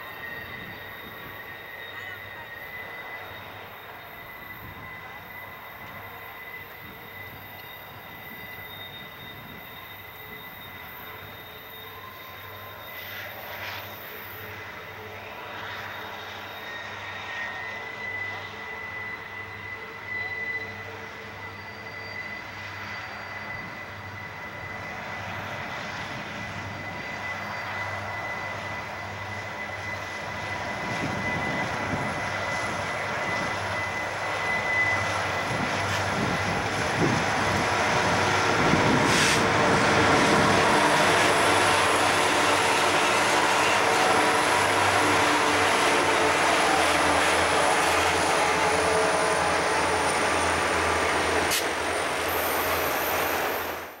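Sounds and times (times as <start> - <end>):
diesel locomotive engines: 0.0 - 54.0
train cars rumbling on rails: 0.0 - 54.0.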